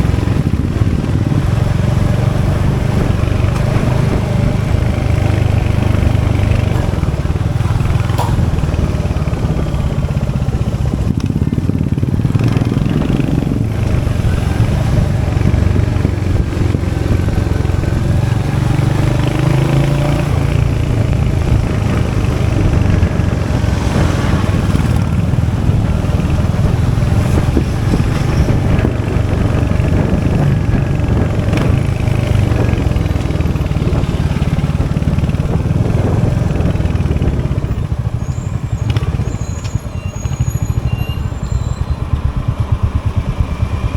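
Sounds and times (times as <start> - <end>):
motorcycle engine thumping: 0.0 - 43.9.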